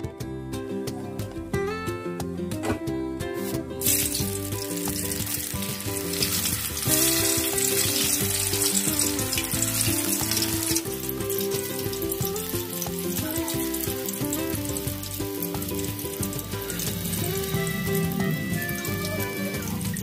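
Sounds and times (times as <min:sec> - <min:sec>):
background music: 0:00.0 - 0:20.0
slices sizzling in hot oil: 0:03.8 - 0:20.0.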